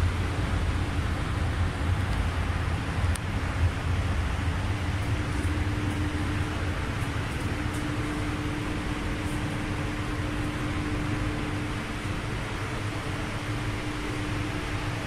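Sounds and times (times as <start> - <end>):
ventilation fans running: 0.0 - 15.0.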